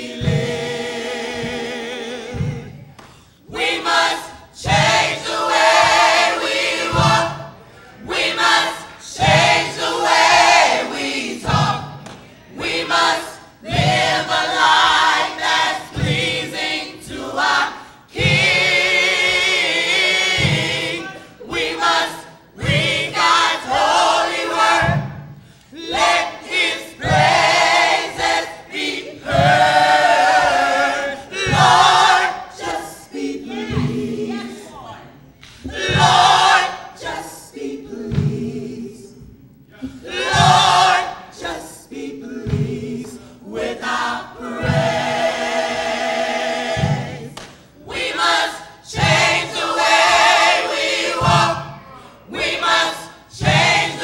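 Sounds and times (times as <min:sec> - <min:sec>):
women's gospel choir singing: 0:00.0 - 0:54.0.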